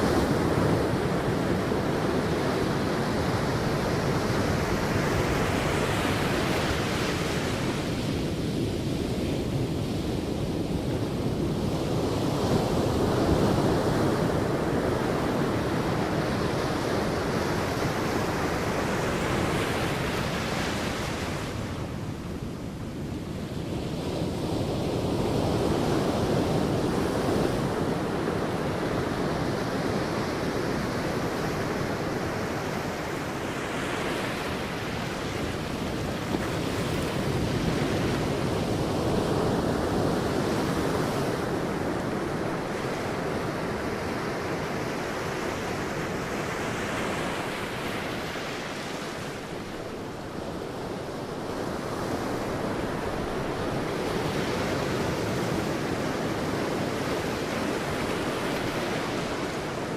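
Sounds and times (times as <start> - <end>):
sea waves breaking on beach: 0.0 - 59.9
wind: 0.0 - 59.9.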